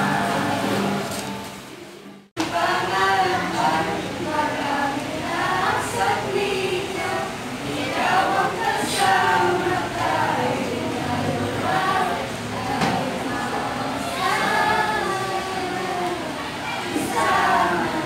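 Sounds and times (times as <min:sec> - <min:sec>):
group of teenagers singing: 0:00.0 - 0:01.4, 0:02.4 - 0:18.0.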